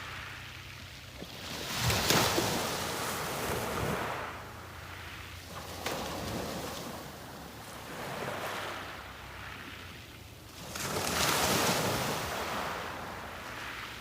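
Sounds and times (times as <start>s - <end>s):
sea waves breaking on beach: 0.0s - 14.0s.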